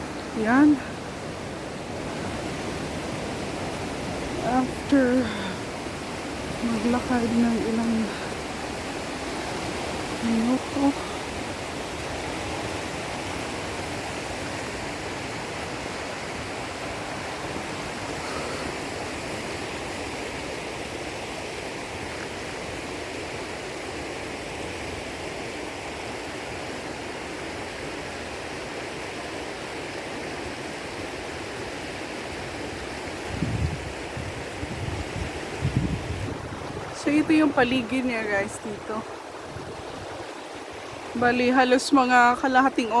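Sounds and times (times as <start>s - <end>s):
fast-flowing water rushing: 0.0s - 43.0s.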